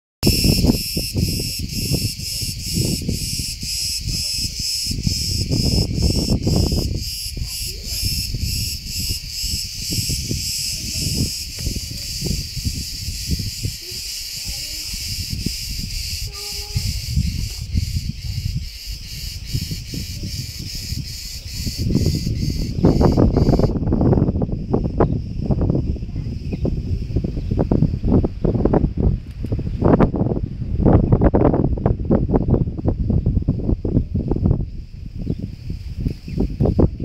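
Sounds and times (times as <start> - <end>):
cicadas buzzing: 0.2 - 37.0
wind rumble on microphone: 0.2 - 37.0.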